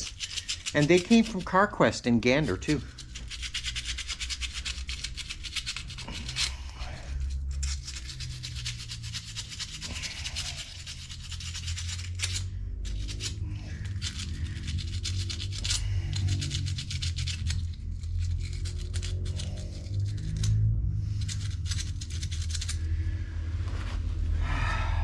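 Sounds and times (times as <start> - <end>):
sandpaper scrubbing metal: 0.0 - 20.6, 21.2 - 22.9.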